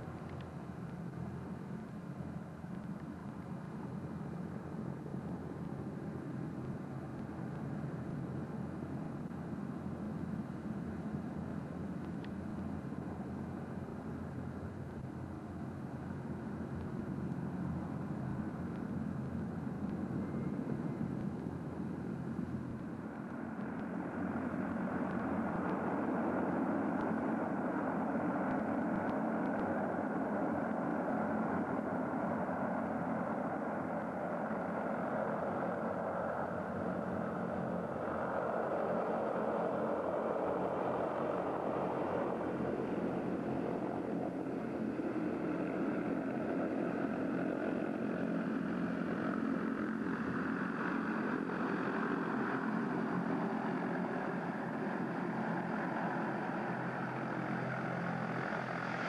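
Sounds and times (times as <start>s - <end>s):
hovercraft turbines and propellers: 0.0s - 59.0s.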